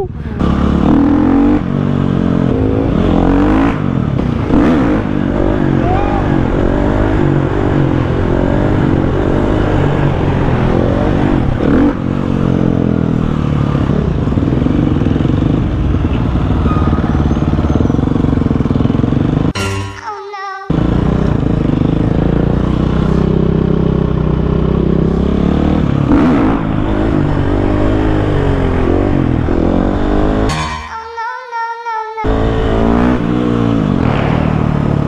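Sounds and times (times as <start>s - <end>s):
motorcycle engines revving: 0.0s - 19.6s, 20.7s - 30.9s, 32.2s - 35.0s.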